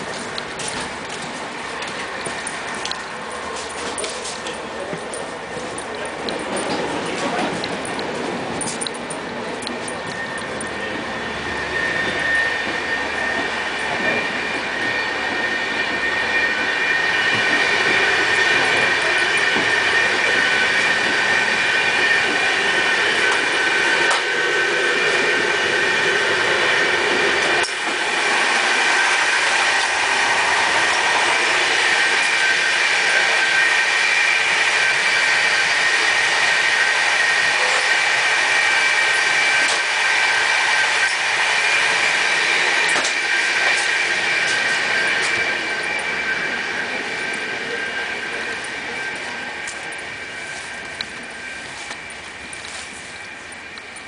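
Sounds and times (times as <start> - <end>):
wheels rushing on rails: 0.0 - 54.0.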